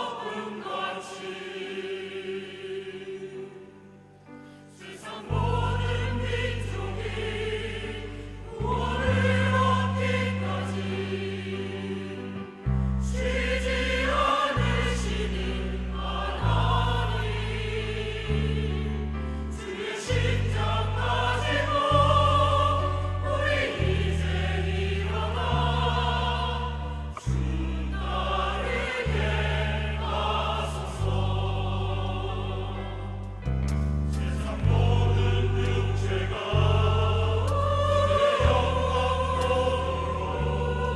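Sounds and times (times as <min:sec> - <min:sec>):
choir singing in parts: 0:00.0 - 0:40.9
sustained low accompaniment: 0:05.1 - 0:40.9.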